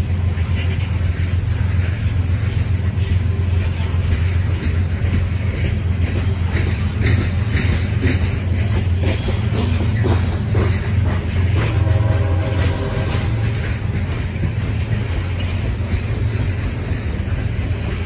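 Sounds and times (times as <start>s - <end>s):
sharp rail clicks: 0.0s - 18.0s
train wheels rumbling on track: 0.0s - 18.0s.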